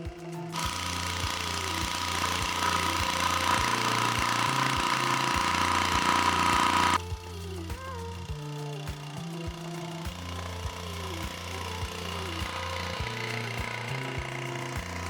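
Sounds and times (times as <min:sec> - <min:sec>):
background music with beat: 0:00.0 - 0:15.0
water pump engine whining: 0:00.0 - 0:15.0.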